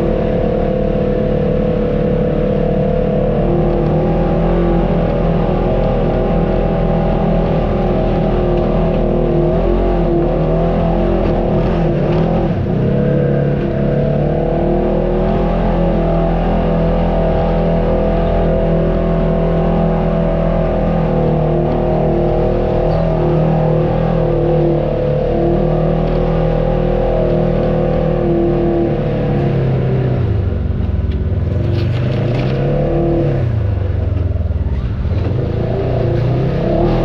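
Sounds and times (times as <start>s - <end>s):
off-road vehicle engine running: 0.0s - 37.0s.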